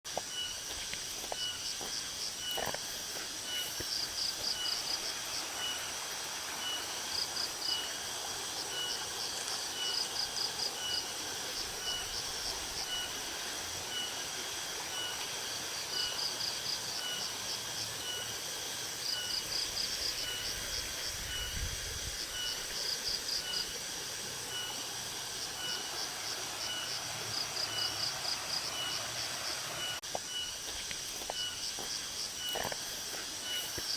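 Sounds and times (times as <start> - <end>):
background hiss: 0.1 - 33.9
insect buzz with pulsed trills: 0.1 - 33.9
ticking insect call: 0.1 - 33.9.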